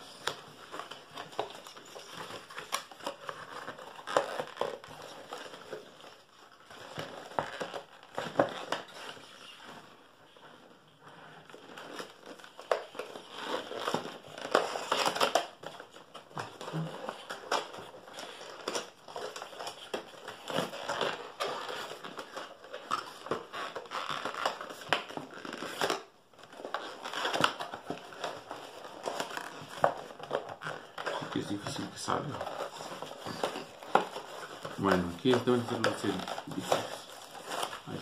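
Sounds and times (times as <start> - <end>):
paperboard box crinkling rustles: 0.0 - 38.0.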